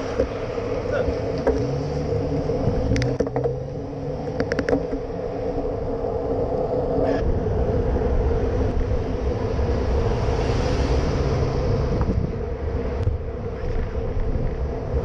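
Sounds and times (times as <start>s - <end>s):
road and wind noise: 0.0s - 15.0s
traffic rumble: 0.0s - 15.0s.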